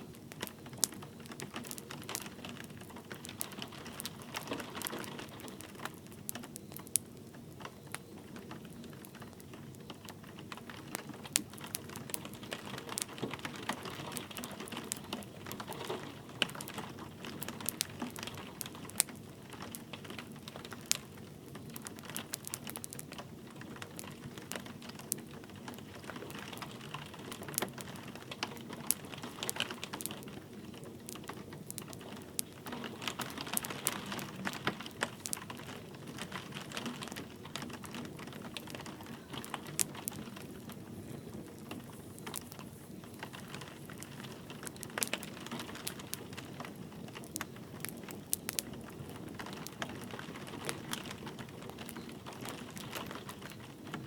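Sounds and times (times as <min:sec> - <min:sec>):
light rain hissing: 0:00.0 - 0:54.0
wood fire crackling and popping: 0:00.0 - 0:54.0.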